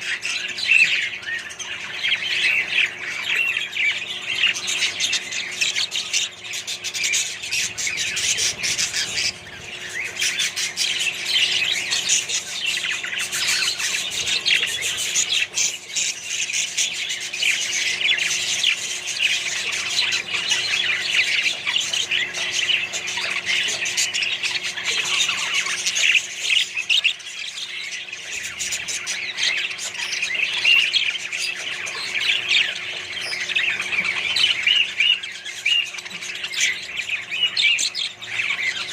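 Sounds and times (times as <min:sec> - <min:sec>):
parrots chattering and squawking: 0:00.0 - 0:38.9.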